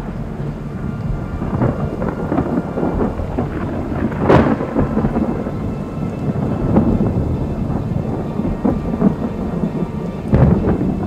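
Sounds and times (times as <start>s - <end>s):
low rumble of thunder: 0.0s - 11.0s
rain falling: 0.0s - 11.0s
sharp thunder crack: 0.0s - 11.0s.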